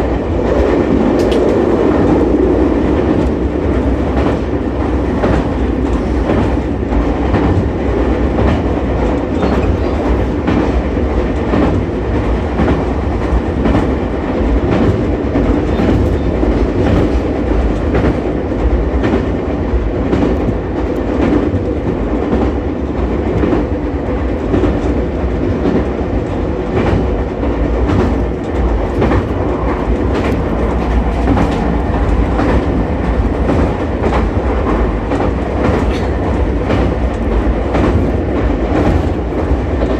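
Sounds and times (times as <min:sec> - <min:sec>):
rail joint clicks: 0:00.0 - 0:39.9
train wheels rumbling on rail: 0:00.0 - 0:39.9.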